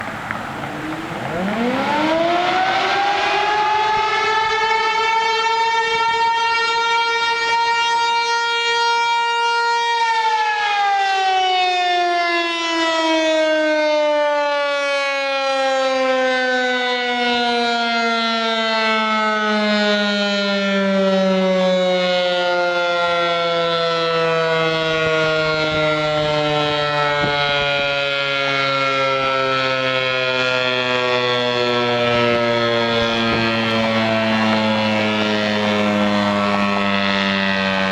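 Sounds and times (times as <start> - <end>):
warning siren wailing: 0.0 - 37.9.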